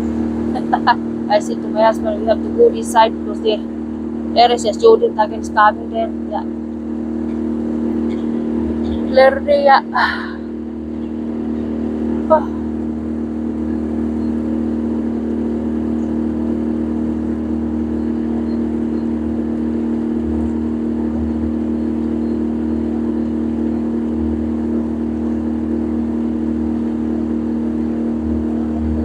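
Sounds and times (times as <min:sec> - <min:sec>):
boat motor droning: 0:00.0 - 0:29.0.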